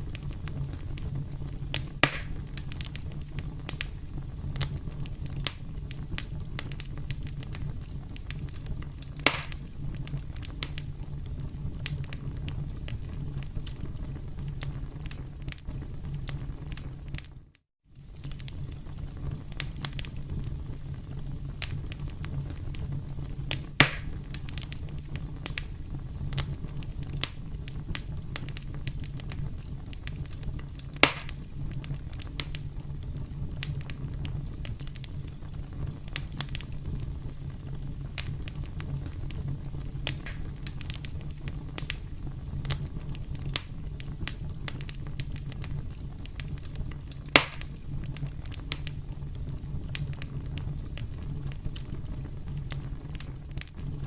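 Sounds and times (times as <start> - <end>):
campfire crackling and popping: 0.0 - 54.0
low rumble of burning wood: 0.0 - 54.0.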